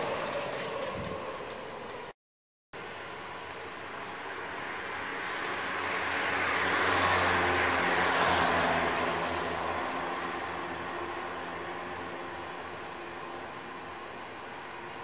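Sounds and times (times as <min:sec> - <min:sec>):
electric trains rumbling past: 0:00.0 - 0:02.1, 0:02.8 - 0:15.0.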